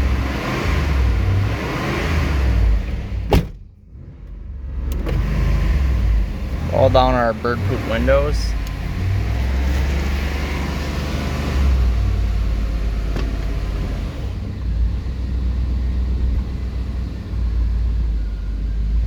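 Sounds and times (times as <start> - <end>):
engine running rough: 0.0 - 19.0.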